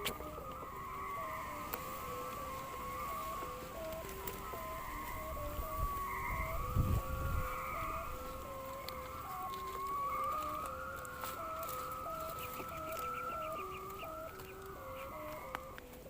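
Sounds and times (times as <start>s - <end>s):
strong wind: 0.0s - 14.6s
kite hummer droning: 0.0s - 16.0s.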